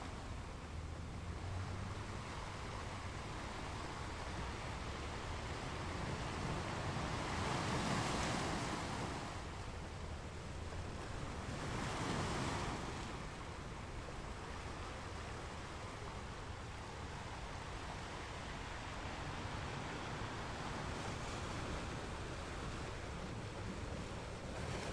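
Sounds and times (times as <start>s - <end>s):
surf washing over rocks: 1.5s - 24.9s.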